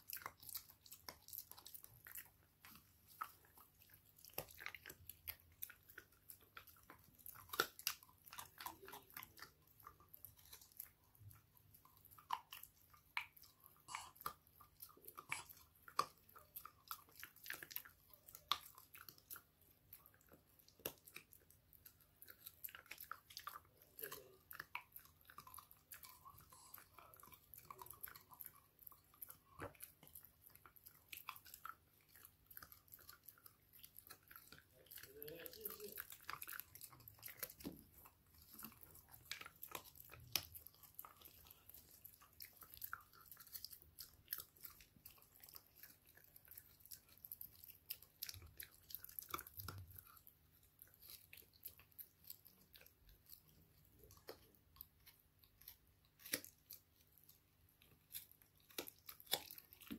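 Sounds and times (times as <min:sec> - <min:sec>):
dog gnawing on a chew: 0:00.0 - 0:59.9
teeth crunching and clicking: 0:00.0 - 0:59.9.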